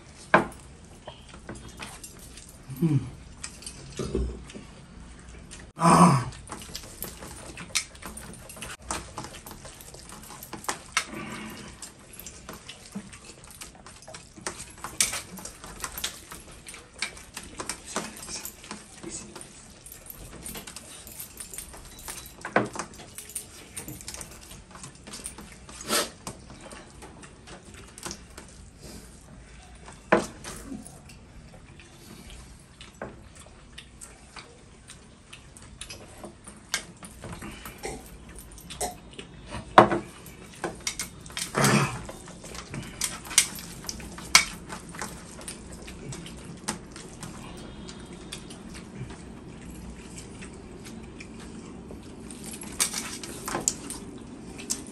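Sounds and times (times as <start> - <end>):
eating noises: 0.0 - 54.9.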